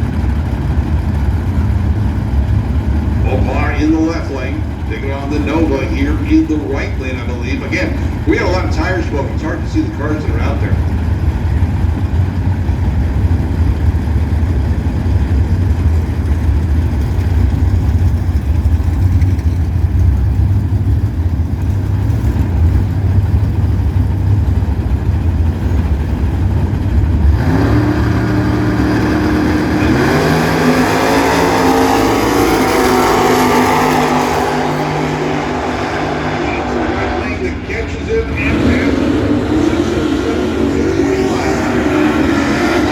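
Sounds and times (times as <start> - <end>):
drag racing car engines: 0.0 - 42.9.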